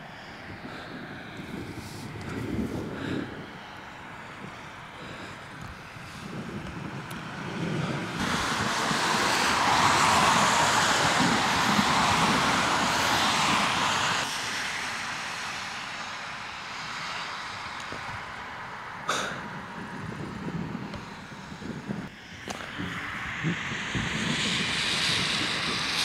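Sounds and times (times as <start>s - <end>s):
rushing hissing outdoor noise: 0.0s - 26.0s.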